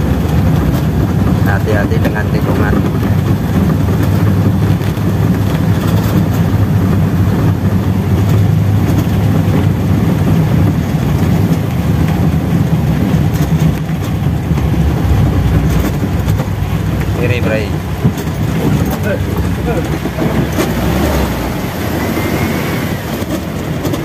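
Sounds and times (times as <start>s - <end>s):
car driving on wet road: 0.0s - 24.0s
car engine low rumble: 0.0s - 24.0s.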